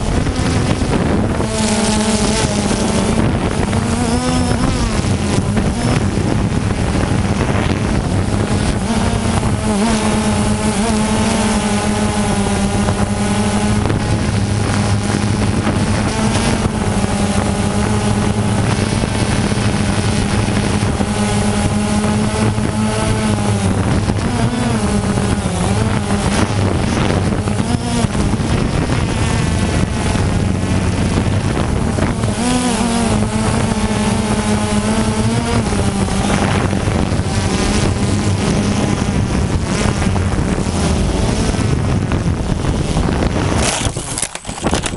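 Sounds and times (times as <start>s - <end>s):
drone motors buzzing: 0.0s - 44.9s.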